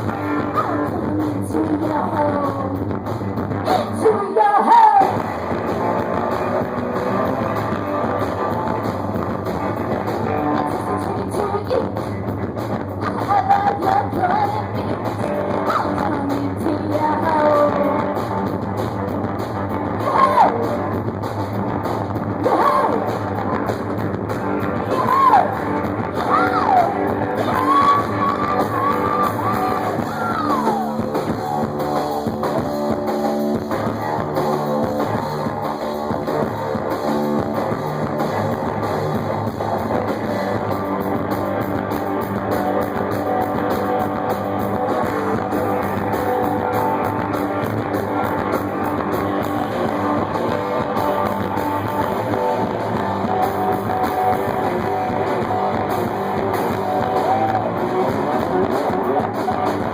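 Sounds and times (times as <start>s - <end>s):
rock band playing live: 0.0s - 59.9s
sliding wailing guitar notes: 0.0s - 59.9s.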